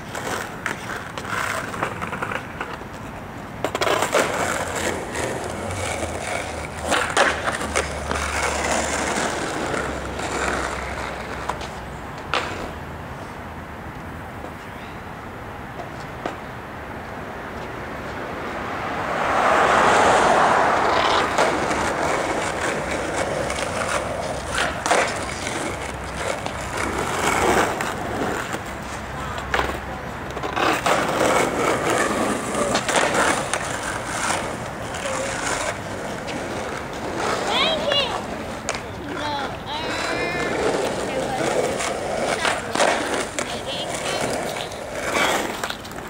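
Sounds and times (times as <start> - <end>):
skateboard clacking on pavement: 0.0 - 12.9, 15.7 - 46.0
skateboard wheels rolling on asphalt: 0.0 - 46.0.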